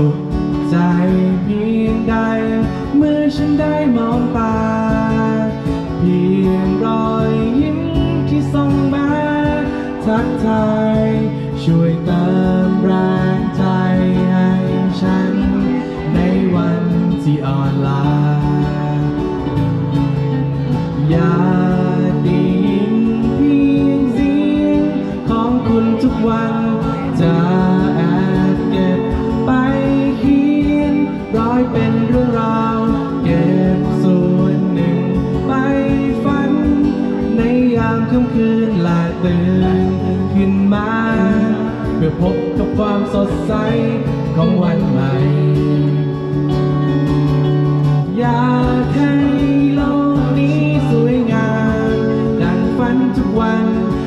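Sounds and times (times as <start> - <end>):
live folk band playing: 0.0 - 54.0.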